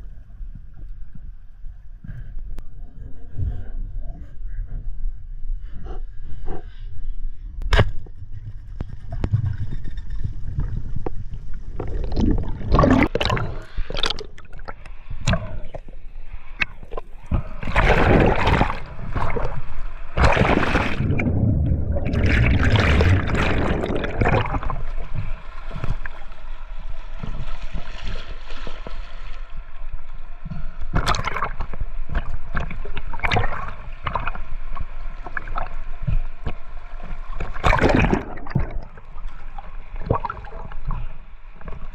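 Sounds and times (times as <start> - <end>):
water sloshing and gurgling: 0.0 - 41.9.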